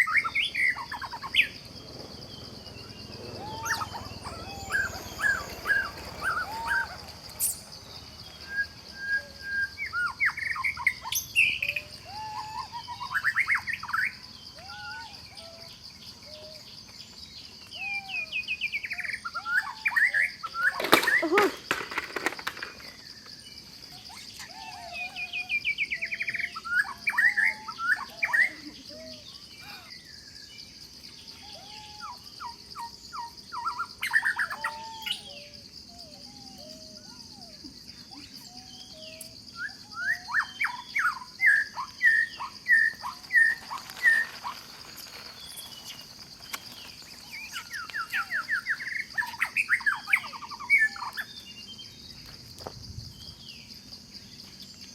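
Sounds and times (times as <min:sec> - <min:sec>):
birds chirping: 0:00.0 - 0:54.9
insect drone: 0:00.0 - 0:54.9.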